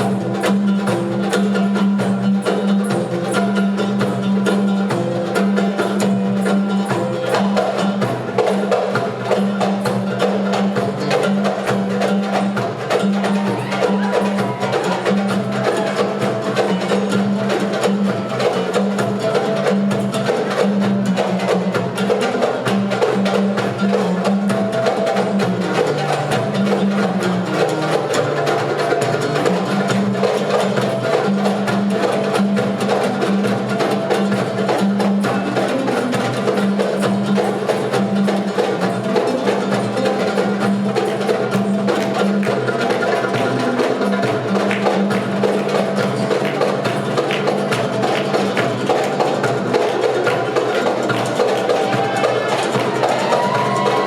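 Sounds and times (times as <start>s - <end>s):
hand drums playing fast rhythm: 0.0s - 54.0s.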